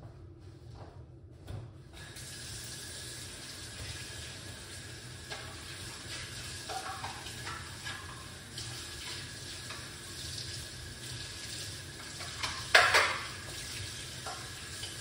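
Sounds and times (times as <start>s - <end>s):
tap water running: 2.0s - 15.0s.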